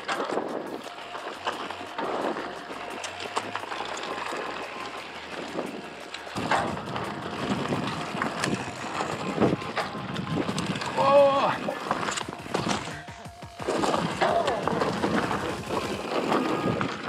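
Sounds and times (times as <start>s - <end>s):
bike rattling over bumps: 0.0s - 17.0s
bike tyres rolling over dirt: 0.0s - 17.0s
wind buffeting microphone: 0.0s - 17.0s.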